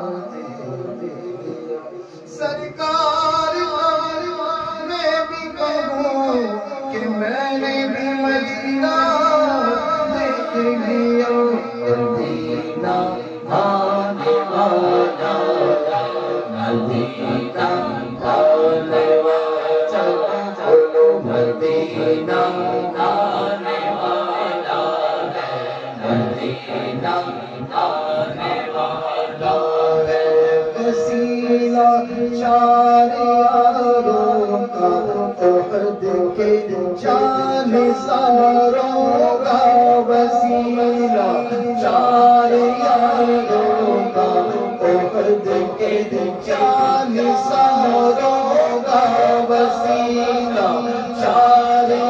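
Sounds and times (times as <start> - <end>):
men singing together: 2.2 - 52.0.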